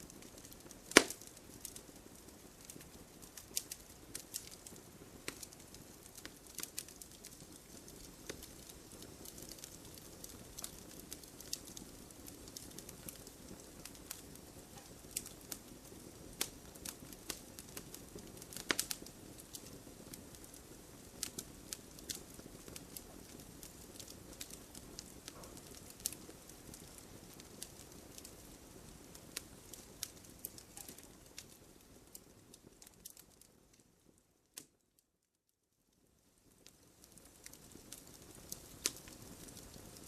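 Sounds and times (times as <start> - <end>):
campfire crackling and popping: 0.0 - 34.8, 36.3 - 40.0
low hiss of burning: 0.0 - 40.0.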